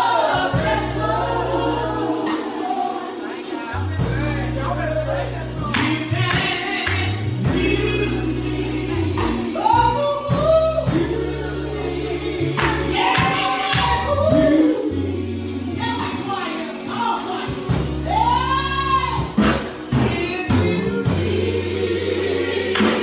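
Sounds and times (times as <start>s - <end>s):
low bass notes: 0.0s - 2.8s, 3.8s - 23.0s
gospel choir singing: 0.0s - 23.0s.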